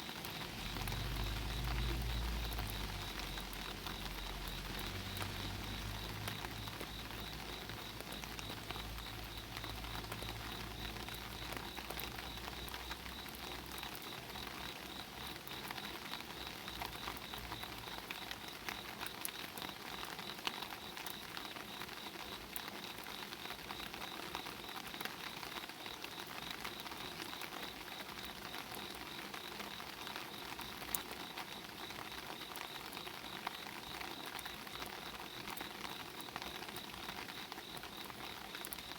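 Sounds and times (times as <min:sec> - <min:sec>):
rain on an umbrella: 0:00.0 - 0:38.9.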